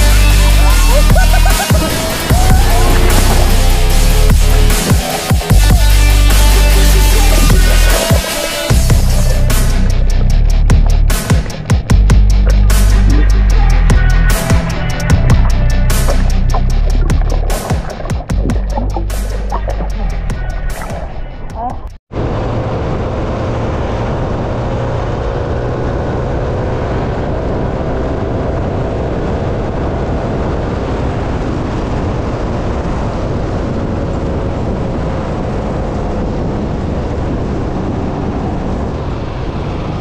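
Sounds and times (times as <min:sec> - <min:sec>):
motorcycle engine drone: 0:00.0 - 0:40.0
wind and road noise: 0:00.0 - 0:40.0.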